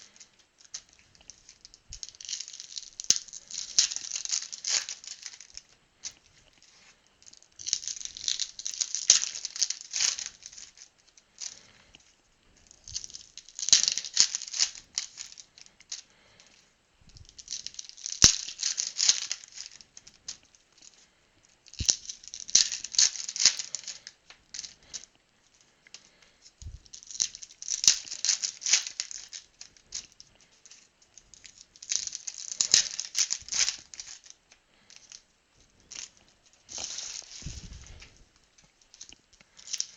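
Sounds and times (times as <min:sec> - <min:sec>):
foil wrappers crinkling: 0:00.0 - 0:12.1, 0:12.7 - 0:16.6, 0:17.2 - 0:39.9.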